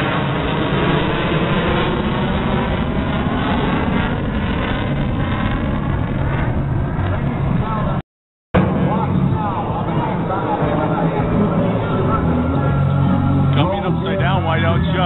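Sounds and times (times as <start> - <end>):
fighter jet engines rumbling: 0.0 - 8.0, 8.6 - 15.0.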